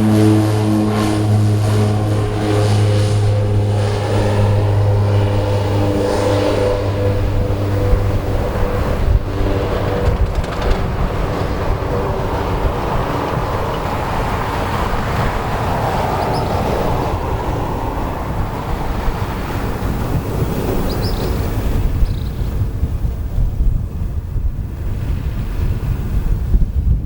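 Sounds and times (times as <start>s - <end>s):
turboprop engines droning: 0.0s - 24.9s
low rushing rumble: 0.0s - 25.1s.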